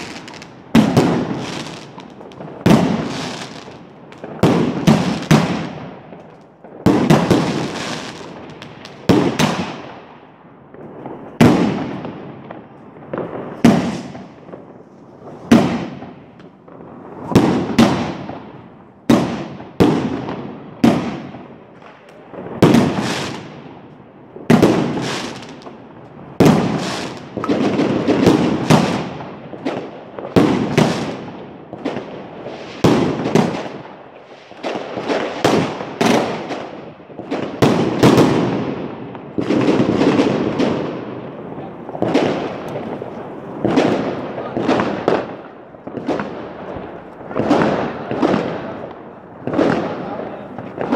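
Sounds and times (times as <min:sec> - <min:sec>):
fireworks bursting with loud bangs: 0:00.0 - 0:50.9.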